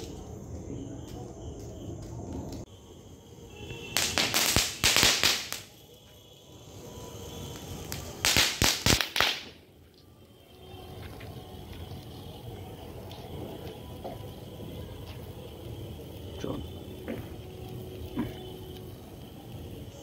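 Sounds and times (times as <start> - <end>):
firework fountain crackling hiss: 0.0 - 20.0.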